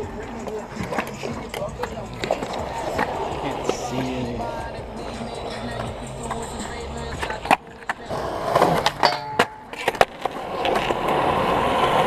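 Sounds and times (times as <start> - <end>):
skateboard clacking on ground: 0.0 - 12.0
skateboard wheels rolling on concrete: 0.0 - 12.0.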